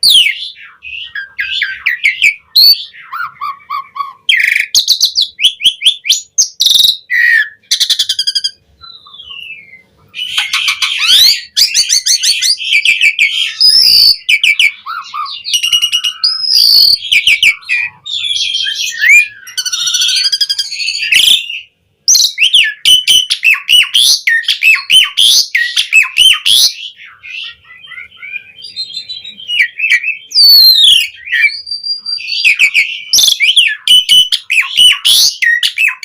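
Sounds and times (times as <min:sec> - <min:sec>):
starling singing: 0:00.0 - 0:36.0.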